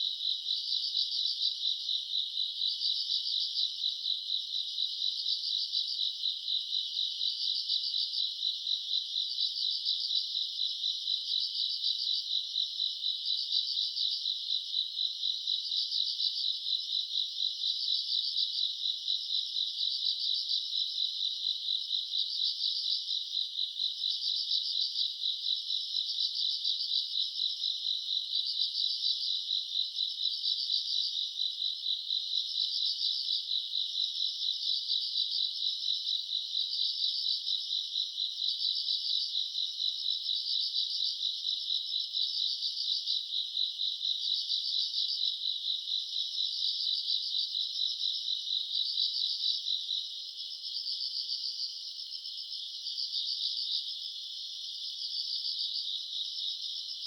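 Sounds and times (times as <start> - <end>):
faint high insect chirping: 0.0 - 57.0.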